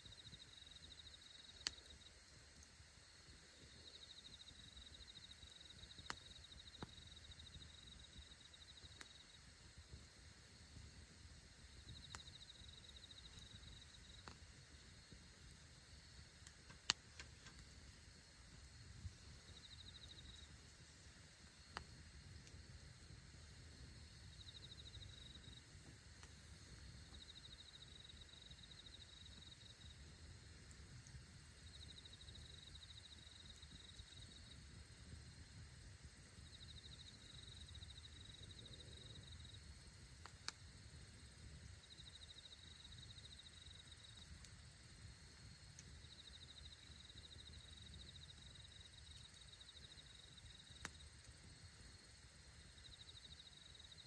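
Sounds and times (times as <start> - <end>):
faint insect trilling: 0.0 - 54.0
campfire pops: 0.2 - 36.4, 37.1 - 41.9, 42.6 - 51.6.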